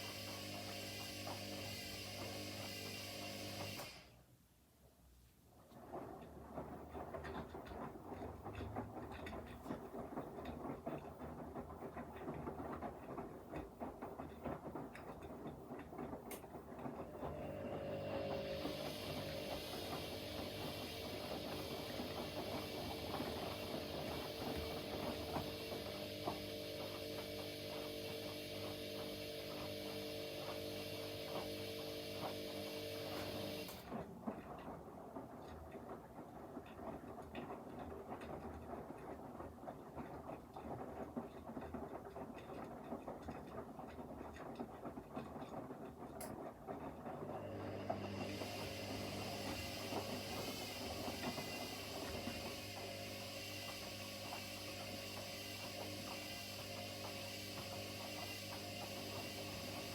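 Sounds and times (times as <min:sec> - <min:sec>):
washing machine motor hum: 0:00.0 - 0:04.4, 0:05.5 - 0:59.9.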